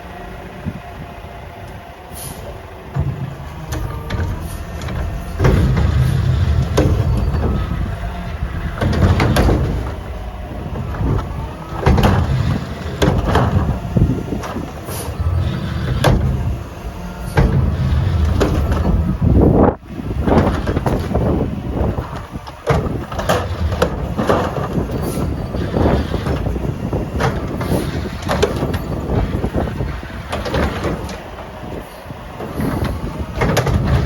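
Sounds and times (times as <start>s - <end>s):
garbage truck running: 0.0s - 34.0s
wind buffeting microphone: 0.2s - 34.0s.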